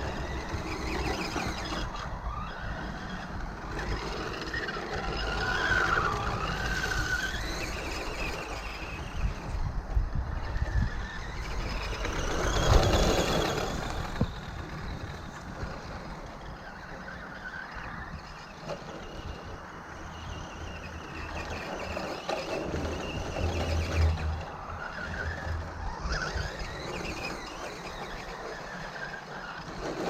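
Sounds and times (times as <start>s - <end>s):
rc truck motor whining: 0.0s - 30.0s.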